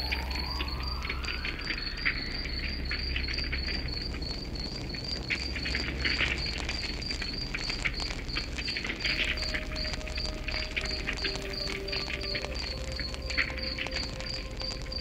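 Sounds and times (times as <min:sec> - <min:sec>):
cricket chirping: 0:00.0 - 0:15.0
wood fire crackling: 0:00.0 - 0:15.0.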